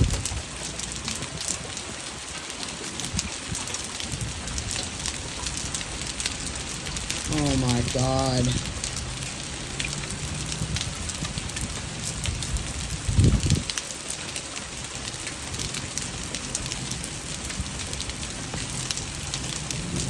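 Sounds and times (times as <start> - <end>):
hail and rain pelting: 0.0 - 20.0.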